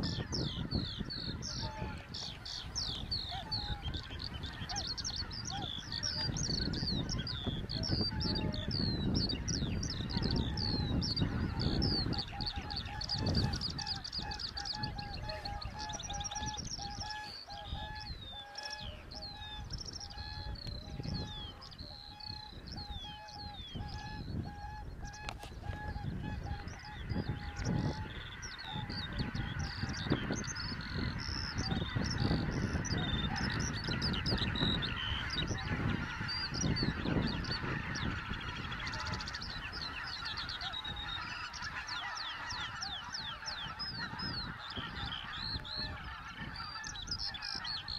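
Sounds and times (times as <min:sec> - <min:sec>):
flock of geese honking: 0:00.0 - 0:47.9.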